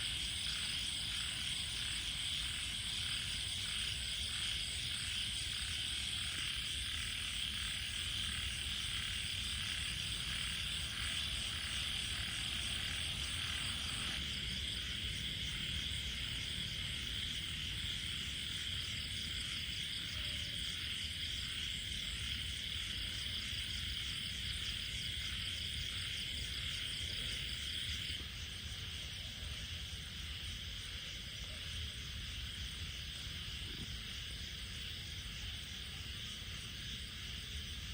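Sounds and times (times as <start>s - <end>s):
frogs and insects trilling: 0.0s - 37.9s.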